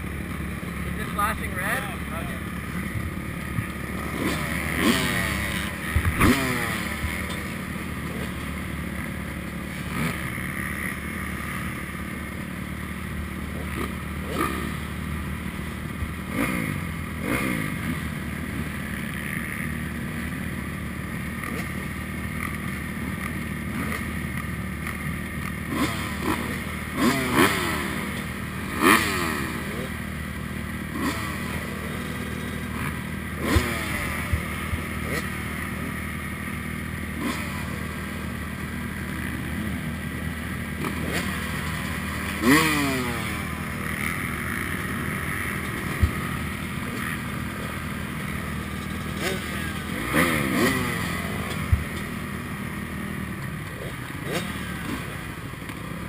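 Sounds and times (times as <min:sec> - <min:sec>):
engines revving: 0:00.0 - 0:56.0
motocross bikes idling: 0:00.0 - 0:56.0.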